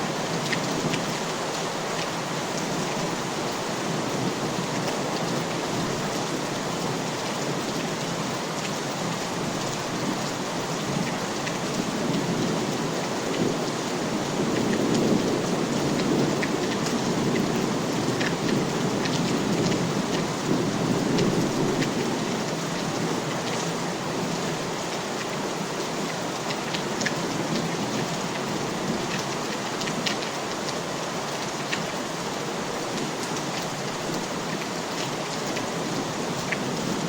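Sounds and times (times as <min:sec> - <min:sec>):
raindrops ticking on a surface: 0:00.0 - 0:37.0
steady rain falling: 0:00.0 - 0:37.0.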